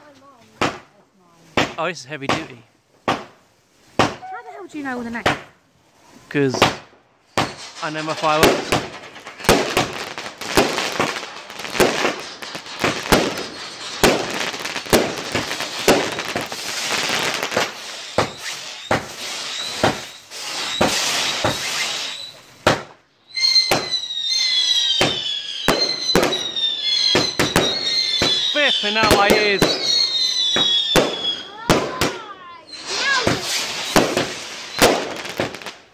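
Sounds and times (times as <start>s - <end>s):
fireworks bangs and crackling: 0.0s - 5.6s, 6.2s - 35.9s
whistling firework shots: 6.5s - 35.9s.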